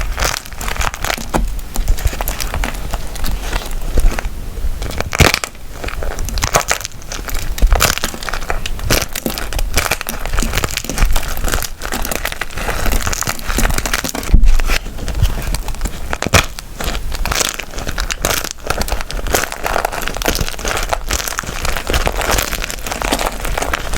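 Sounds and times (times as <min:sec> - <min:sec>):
wax crackling in hands: 0:00.0 - 0:23.9
wax snapping: 0:00.0 - 0:23.9.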